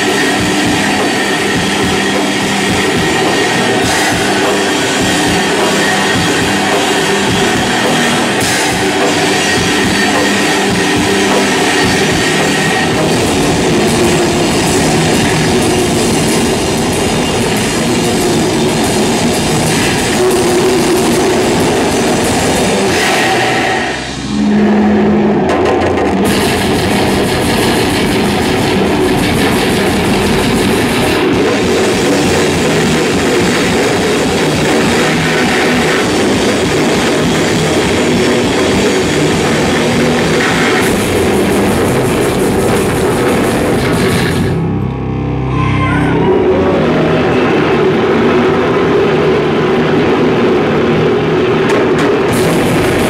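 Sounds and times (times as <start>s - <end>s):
drum kit playing: 0.0s - 44.8s, 51.6s - 53.0s
distorted electric guitar: 0.0s - 53.0s.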